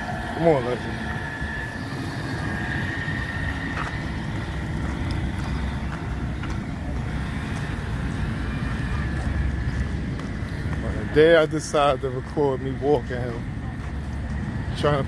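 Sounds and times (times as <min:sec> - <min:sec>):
large engine rumbling: 0:00.0 - 0:15.0.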